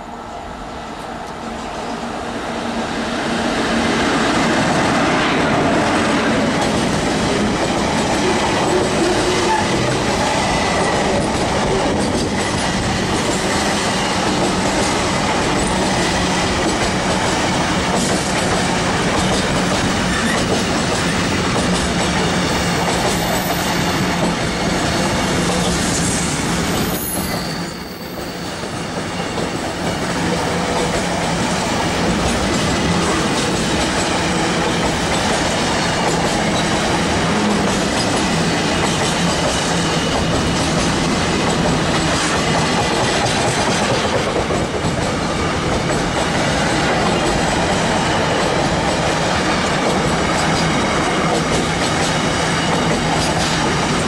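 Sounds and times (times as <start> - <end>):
freight train wheels rushing on rails: 0.0 - 54.0.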